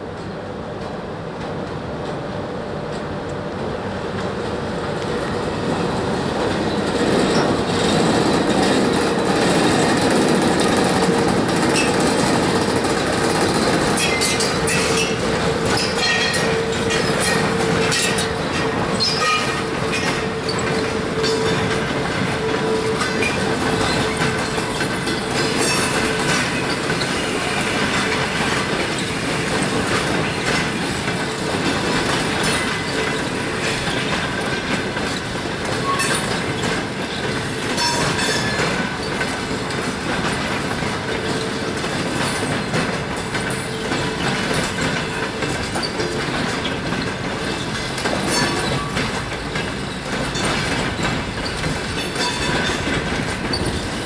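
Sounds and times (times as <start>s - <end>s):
train wheels clacking: 0.1s - 54.0s.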